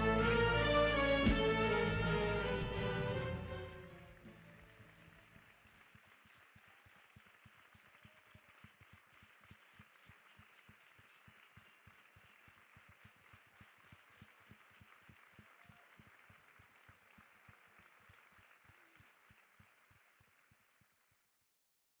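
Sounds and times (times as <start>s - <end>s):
audience applause: 0.0s - 21.0s.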